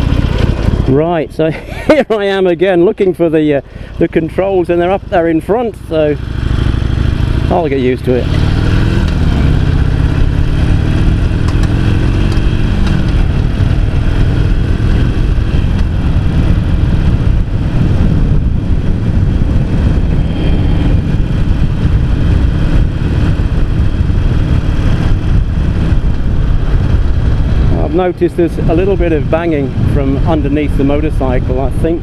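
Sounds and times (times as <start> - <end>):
motorcycle engine running: 0.0 - 1.6, 3.9 - 32.0.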